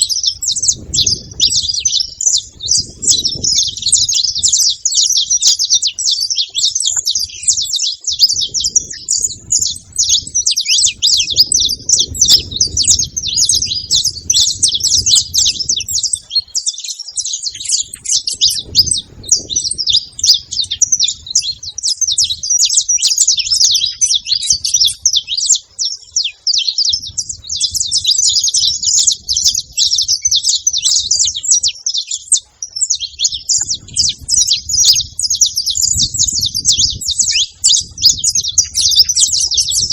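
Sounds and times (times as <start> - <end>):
finch singing chirps and trills: 0.0 - 39.9.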